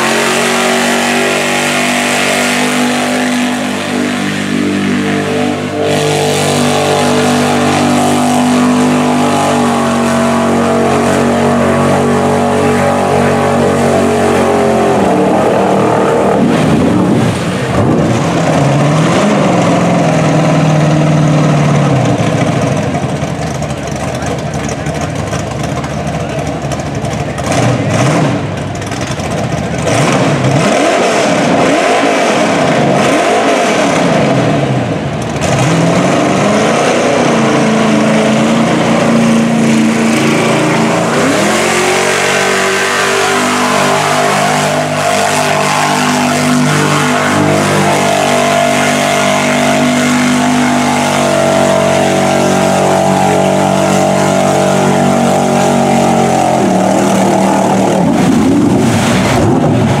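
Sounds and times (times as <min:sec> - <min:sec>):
tires spinning in mud: 0:00.0 - 1:00.0
truck engine revving: 0:00.0 - 1:00.0.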